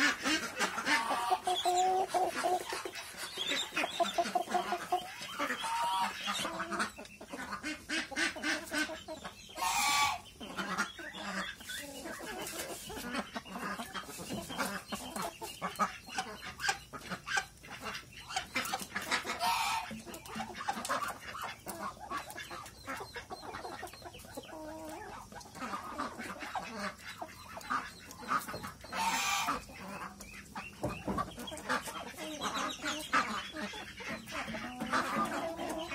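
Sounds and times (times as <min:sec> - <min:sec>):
chicken calls: 0:00.0 - 0:35.9
chickens clucking: 0:00.0 - 0:35.9.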